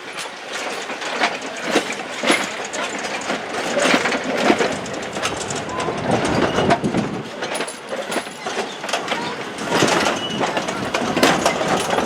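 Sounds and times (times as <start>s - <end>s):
train rolling on track: 0.0s - 12.0s
wheels and couplings clanking: 0.0s - 12.0s.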